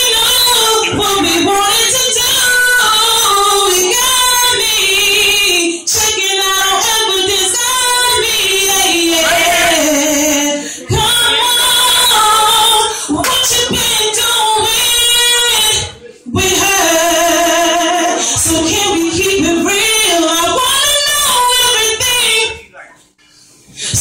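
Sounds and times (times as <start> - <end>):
woman singing: 0.0 - 22.6.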